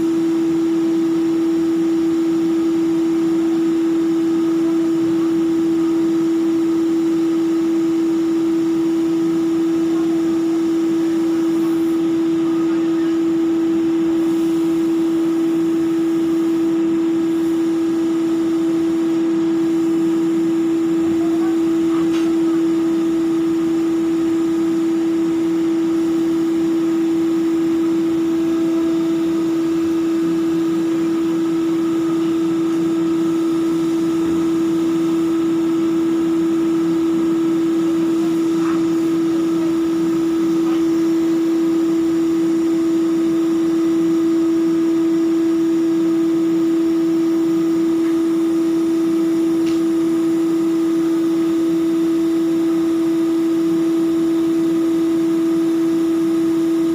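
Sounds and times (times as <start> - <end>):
ship machinery drone: 0.0 - 56.9.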